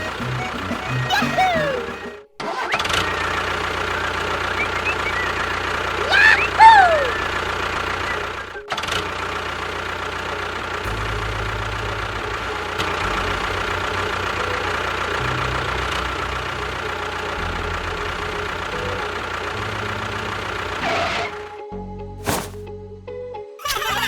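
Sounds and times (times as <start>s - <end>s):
motor running: 0.0s - 21.5s.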